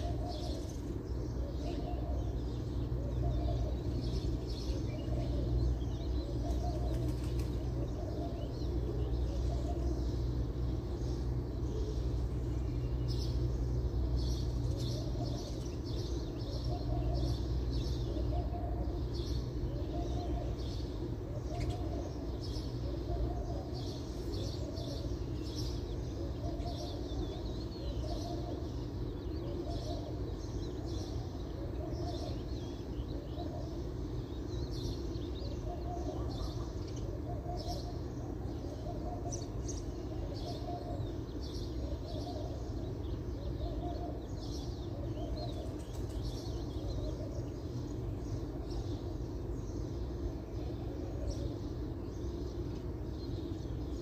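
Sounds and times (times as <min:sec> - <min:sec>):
dove cooing: 0:00.0 - 0:52.4
small birds chirping: 0:00.0 - 0:54.0.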